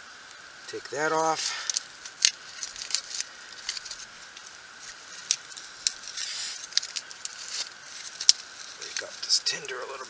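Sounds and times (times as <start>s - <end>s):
dry tinder crackling and snapping: 0.2s - 10.0s.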